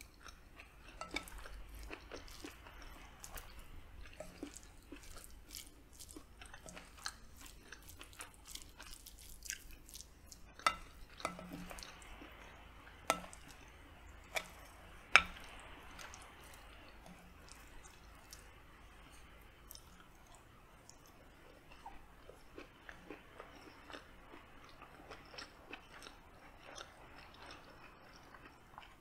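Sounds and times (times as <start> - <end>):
chewing: 0.0 - 29.0.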